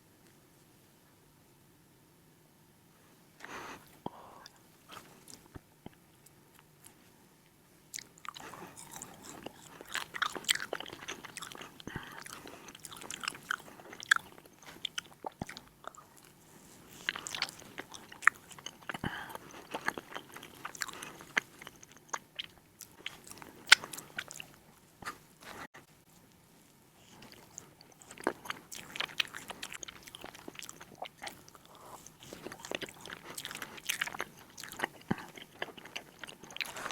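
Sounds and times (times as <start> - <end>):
chewing crunchy food: 4.4 - 7.0, 7.9 - 26.4, 27.0 - 36.9.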